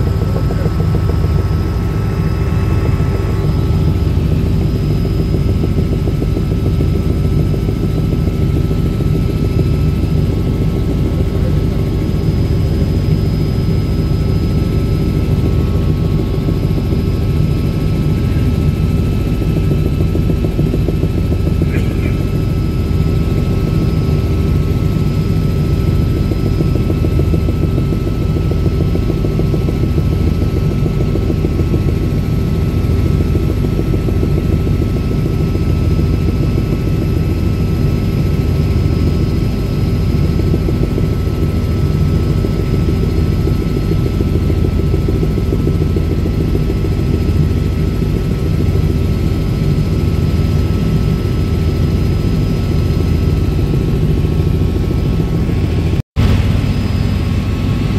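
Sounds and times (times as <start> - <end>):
helicopter rotor throb: 0.0 - 57.9
high-pitched turbine whine: 0.0 - 57.9.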